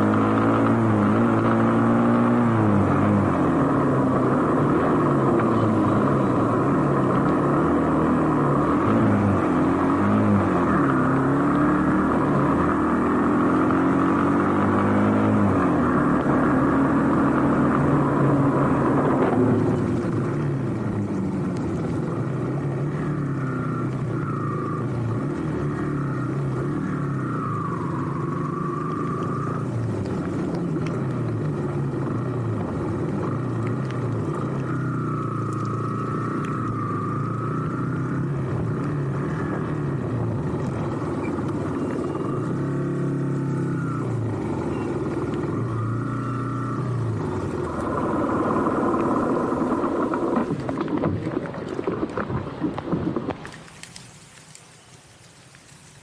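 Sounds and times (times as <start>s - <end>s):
motorcycle engine running: 0.0s - 53.6s.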